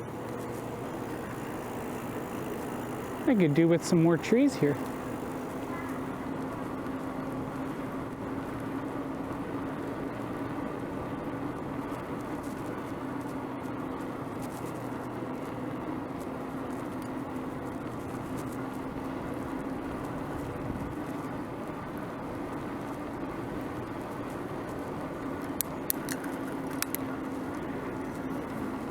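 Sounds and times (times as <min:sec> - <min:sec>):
bicycle tyres on paved road: 0:00.0 - 0:28.9.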